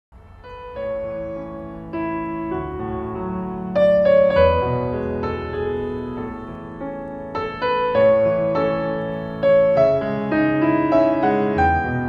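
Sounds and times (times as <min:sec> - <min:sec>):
slow piano chords: 0:00.2 - 0:12.0.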